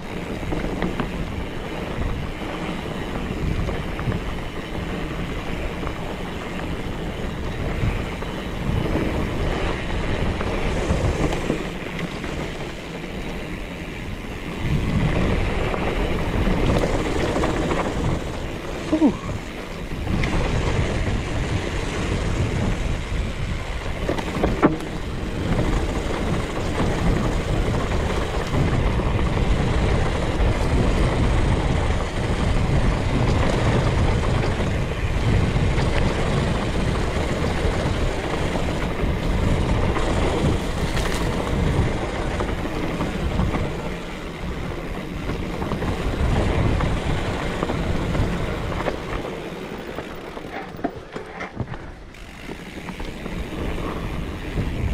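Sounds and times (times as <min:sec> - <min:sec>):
bike tyres rolling on dirt: 0:00.0 - 0:54.9
wind on microphone: 0:00.0 - 0:54.9.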